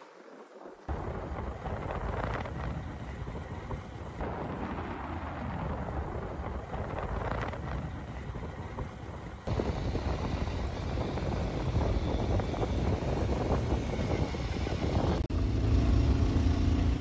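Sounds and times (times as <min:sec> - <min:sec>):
wind buffeting microphone: 0:00.0 - 0:17.0
motorcycle engine: 0:01.0 - 0:17.0.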